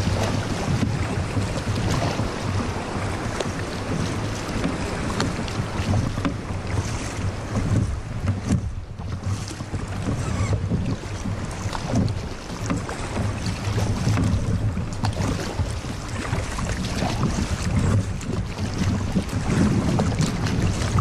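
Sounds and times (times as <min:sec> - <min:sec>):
paddle strokes splashing: 0:00.0 - 0:21.0
water sloshing along hull: 0:00.0 - 0:21.0
wind buffeting microphone: 0:00.0 - 0:21.0.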